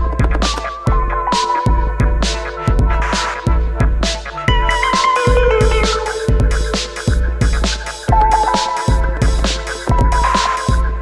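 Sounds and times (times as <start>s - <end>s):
electronic music with bass beat: 0.0s - 11.0s.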